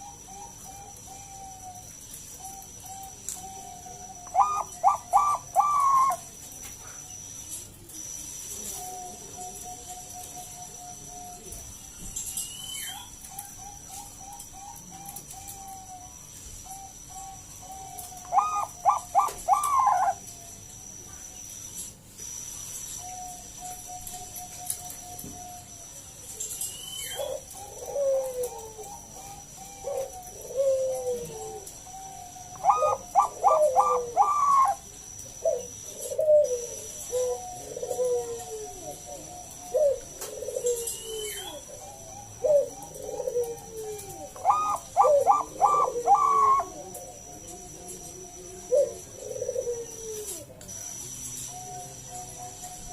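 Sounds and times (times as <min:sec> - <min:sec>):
dove cooing: 0:00.0 - 0:07.2, 0:07.8 - 0:12.2, 0:12.8 - 0:21.2, 0:27.0 - 0:52.9.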